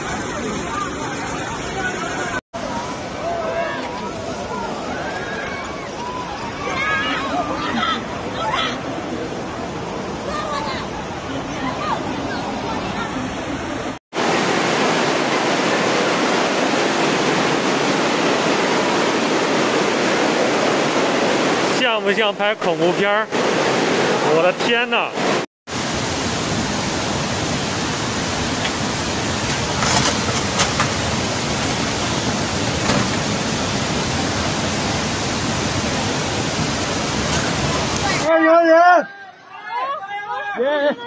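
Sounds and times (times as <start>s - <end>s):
rushing floodwater: 0.0s - 41.0s.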